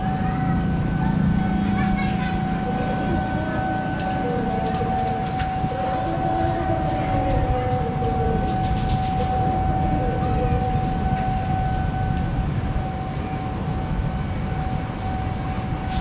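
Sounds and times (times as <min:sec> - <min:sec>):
diesel locomotive rumbling: 0:00.0 - 0:16.0
steady high-pitched tone: 0:00.0 - 0:16.0.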